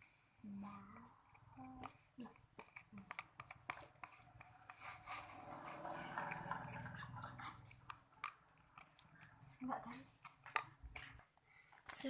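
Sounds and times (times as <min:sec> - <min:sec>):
spoon stirring thick mixture: 0:01.0 - 0:12.0.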